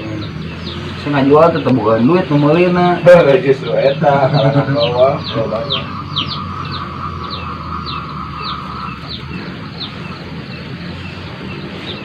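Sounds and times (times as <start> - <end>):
steady mid-pitched tone: 0.0 - 11.5
small bird chirping: 0.0 - 12.0
steady low hum: 0.0 - 12.0.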